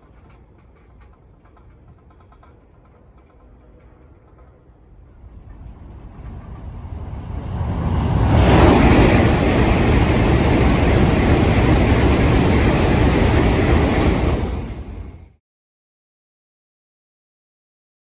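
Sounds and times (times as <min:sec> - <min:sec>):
high-speed train passing: 0:00.0 - 0:15.4.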